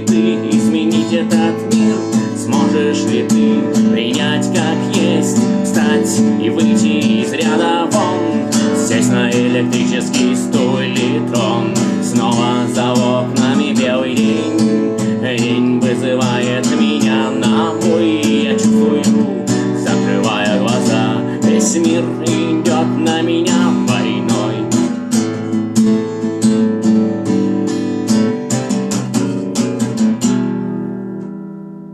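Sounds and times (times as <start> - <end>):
acoustic guitar strumming chords: 0.0 - 31.9.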